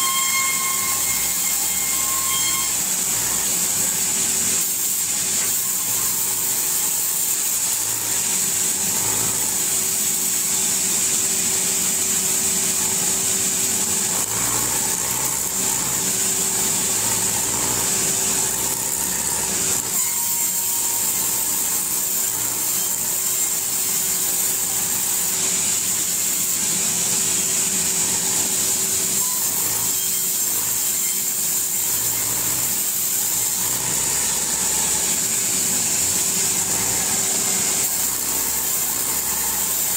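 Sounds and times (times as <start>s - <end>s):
saw bench motor hum: 0.0s - 39.9s
saw blade hissing through wood: 0.0s - 39.9s.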